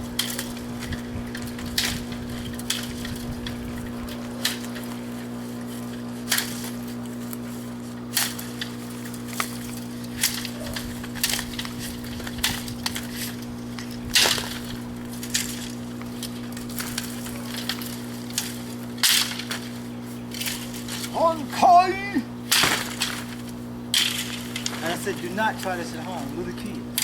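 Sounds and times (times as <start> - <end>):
sticks cracking and snapping: 0.0 - 21.2, 22.5 - 27.0
steady low hum: 0.0 - 27.0.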